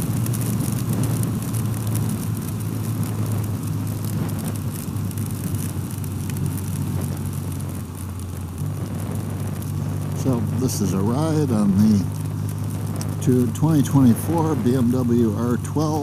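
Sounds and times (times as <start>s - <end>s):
motorcycle engine running: 0.0s - 16.0s
wind and road noise hiss: 0.0s - 16.0s.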